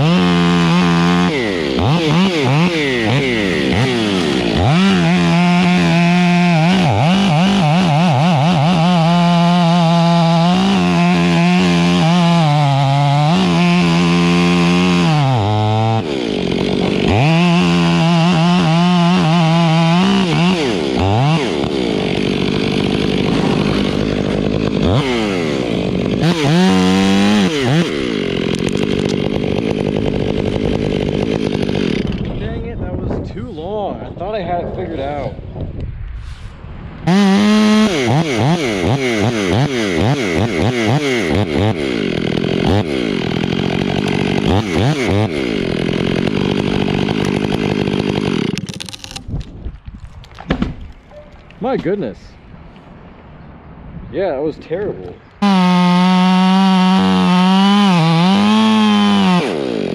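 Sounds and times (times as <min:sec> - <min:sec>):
chainsaw cutting wood: 0:00.0 - 0:32.6, 0:37.1 - 0:52.2, 0:55.4 - 0:59.9.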